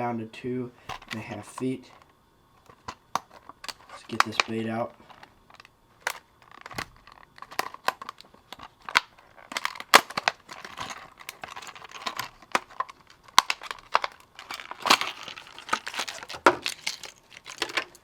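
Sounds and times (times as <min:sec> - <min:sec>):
plastic packaging crinkling: 0:02.7 - 0:18.0.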